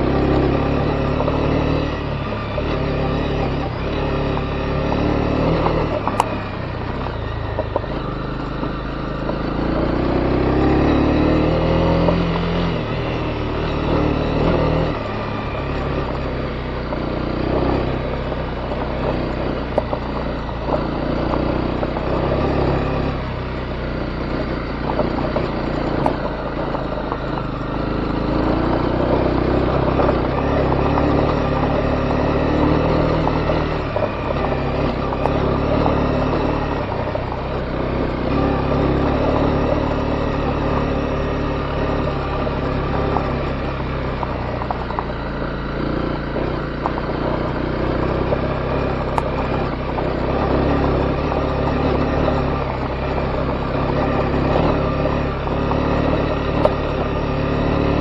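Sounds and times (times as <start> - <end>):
motorcycle engine revving: 0.0 - 58.0
tyre and road noise: 0.0 - 58.0.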